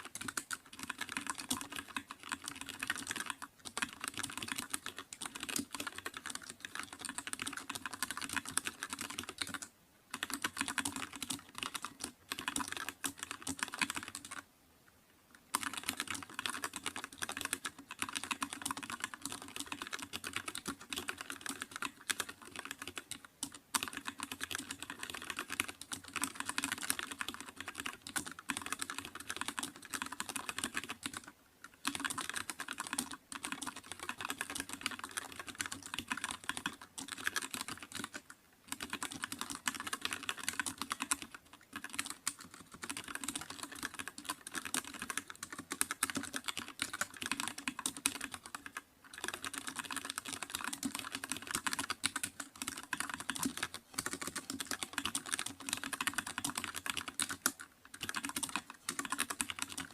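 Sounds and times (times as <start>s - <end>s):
fast typing on keyboard: 0.0s - 14.4s, 15.5s - 59.9s.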